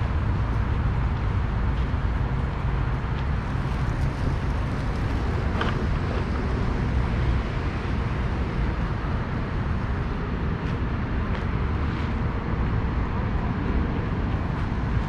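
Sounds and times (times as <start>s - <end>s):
low rumble of city noise: 0.0s - 15.0s.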